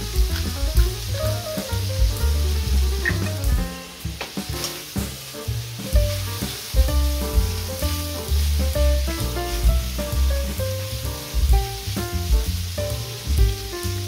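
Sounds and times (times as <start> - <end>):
meat sizzling in a hot pan: 0.0 - 14.0.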